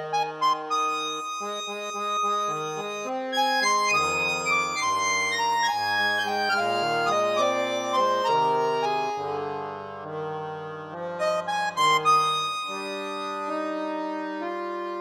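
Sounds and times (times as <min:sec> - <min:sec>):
accordion playing slow melody: 0:00.0 - 0:15.0.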